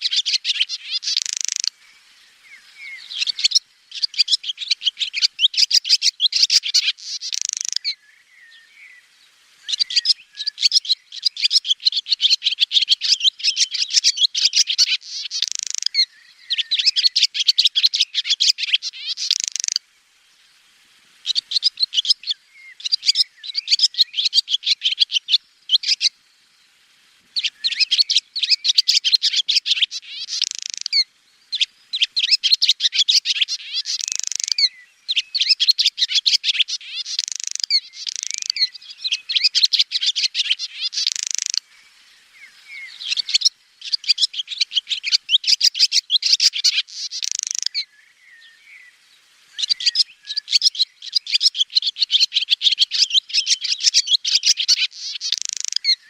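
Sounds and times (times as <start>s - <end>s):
swallow twittering: 0.0s - 9.0s, 9.6s - 19.8s, 21.2s - 26.2s, 27.4s - 56.0s.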